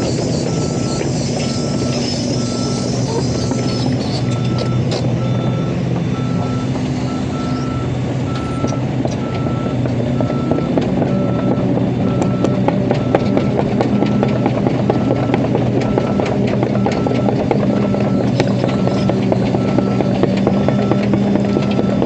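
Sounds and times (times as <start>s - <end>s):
diesel engine running: 0.0s - 22.0s
backup alarm beeping: 0.5s - 22.0s.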